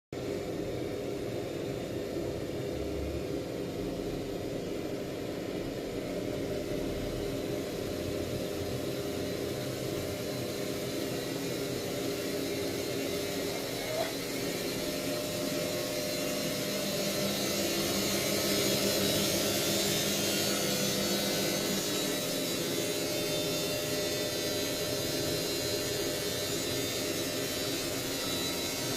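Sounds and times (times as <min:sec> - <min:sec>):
washing machine humming: 0:00.2 - 0:28.9.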